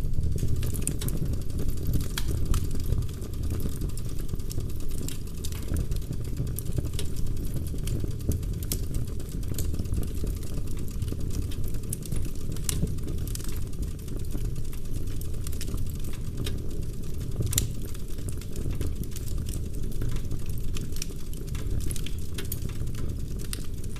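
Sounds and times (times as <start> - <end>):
fireplace flames rushing: 0.0 - 23.9
wood crackling and popping: 0.0 - 23.9.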